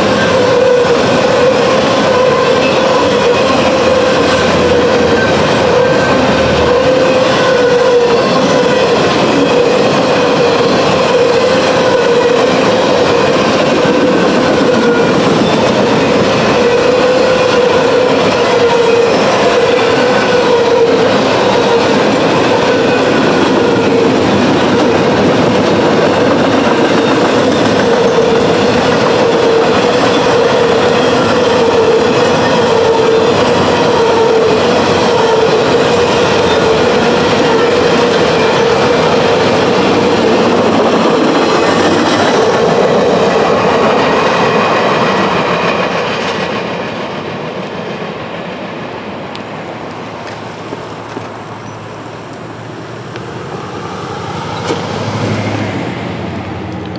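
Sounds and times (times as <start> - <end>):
train wheels clattering on rails: 0.0 - 56.9.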